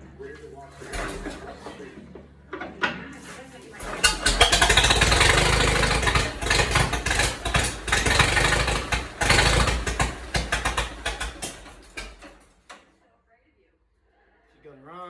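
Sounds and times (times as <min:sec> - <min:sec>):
tractor engine running unevenly: 0:00.0 - 0:12.8.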